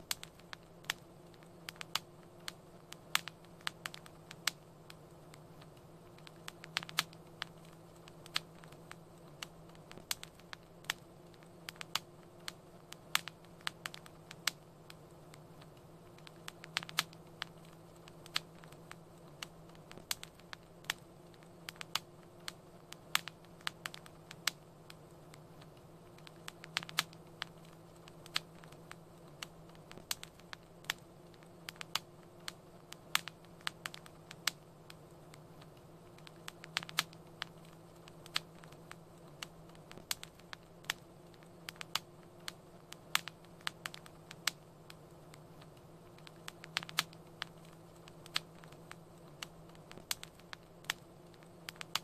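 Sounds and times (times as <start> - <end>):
low steady hum: 0.0 - 52.0
wood fire crackling: 0.0 - 52.0.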